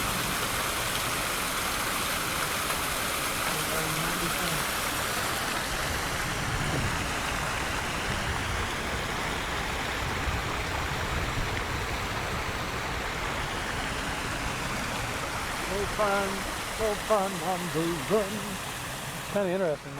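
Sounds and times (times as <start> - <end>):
small waterfall rushing: 0.0 - 19.9.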